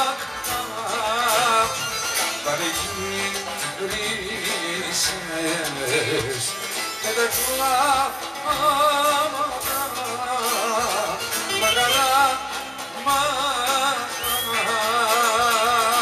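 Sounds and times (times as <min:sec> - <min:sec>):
man singing: 0:00.0 - 0:16.0
wavering melody with vibrato: 0:00.0 - 0:16.0.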